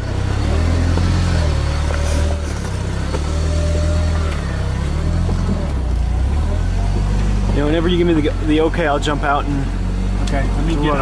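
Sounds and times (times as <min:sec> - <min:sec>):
engine running low: 0:00.0 - 0:11.0.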